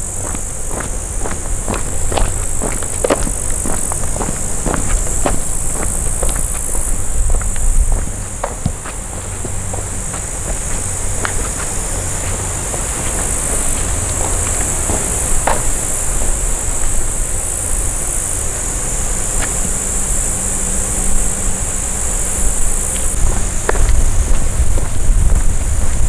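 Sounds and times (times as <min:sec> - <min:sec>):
shrilling insects chorus: 0:00.0 - 0:26.0.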